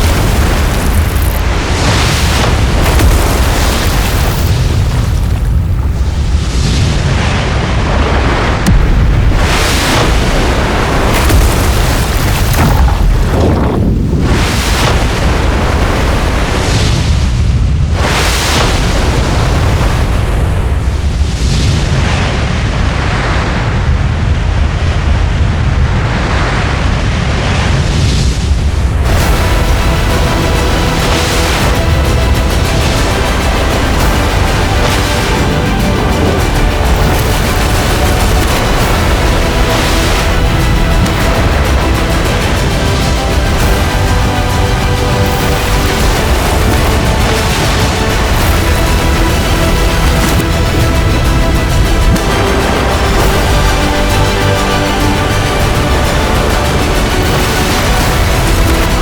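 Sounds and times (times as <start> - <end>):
floodwater rushing: 0.0 - 23.6, 25.9 - 59.0.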